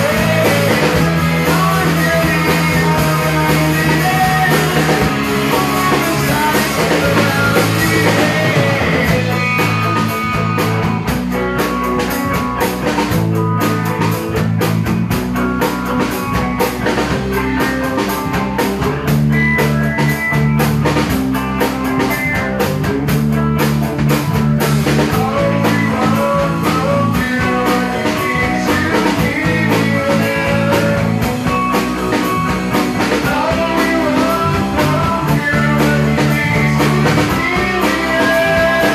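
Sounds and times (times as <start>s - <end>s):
drum kit hits: 0.0s - 38.9s
electric guitars: 0.0s - 38.9s.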